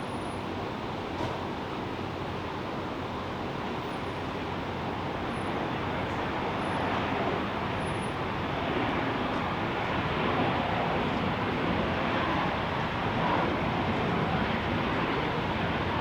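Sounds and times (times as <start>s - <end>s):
distant jet airliner engine: 0.0s - 16.0s.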